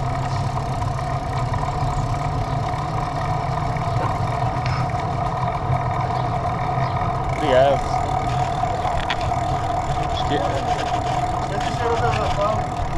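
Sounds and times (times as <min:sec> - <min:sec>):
vehicle engine running: 0:00.0 - 0:12.9.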